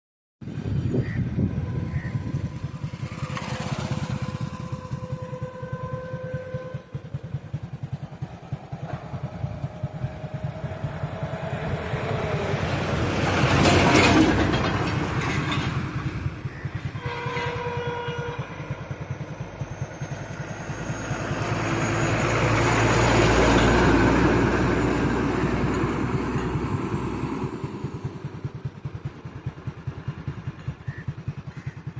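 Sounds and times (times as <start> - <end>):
vehicle engines rumbling: 0.4 - 31.9.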